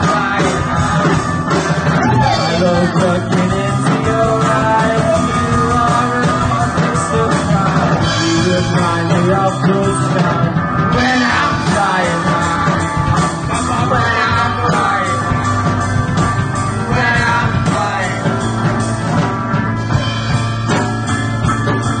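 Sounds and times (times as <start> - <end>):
drum kit beat: 0.0 - 22.0
electric guitar: 0.0 - 22.0.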